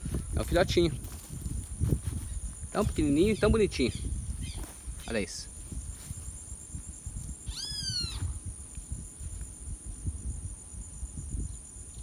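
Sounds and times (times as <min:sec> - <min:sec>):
high insect buzz: 0:00.0 - 0:12.0
low wind rumble: 0:00.0 - 0:12.0.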